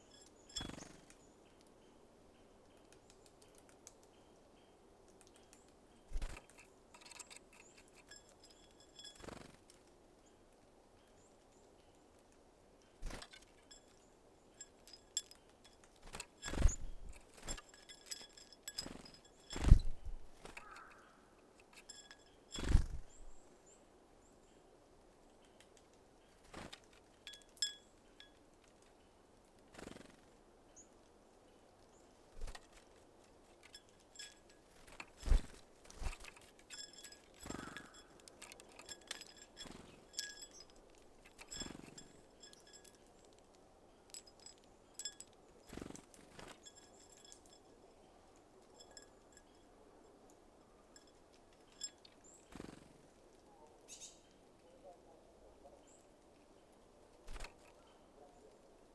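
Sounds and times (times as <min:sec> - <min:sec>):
birds tapping and pecking seeds: 0:00.0 - 0:23.6, 0:25.0 - 0:54.8, 0:55.9 - 0:58.9.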